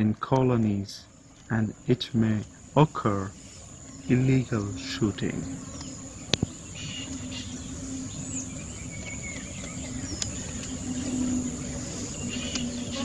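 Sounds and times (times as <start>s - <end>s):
bird chirps: 0.0s - 13.0s
low steady hum: 0.0s - 13.0s
high insect buzz: 1.0s - 13.0s.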